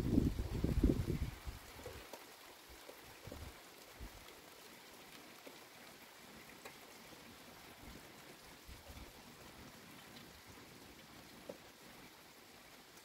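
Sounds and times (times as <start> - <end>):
faint rain falling: 0.0 - 13.0.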